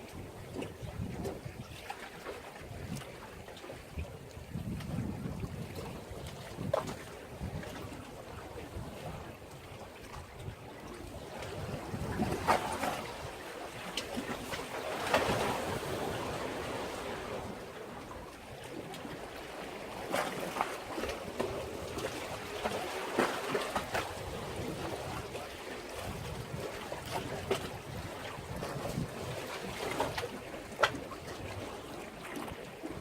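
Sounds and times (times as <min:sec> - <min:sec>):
sea waves splashing on breakwater: 0:00.0 - 0:33.0.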